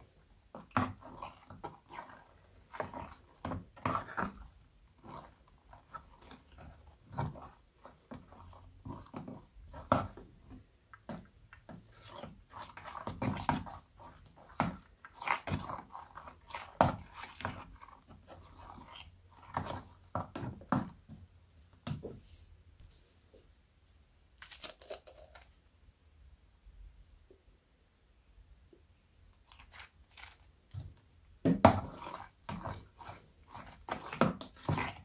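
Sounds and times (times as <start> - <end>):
spatula squelching slime: 0.0 - 22.5, 29.3 - 35.0.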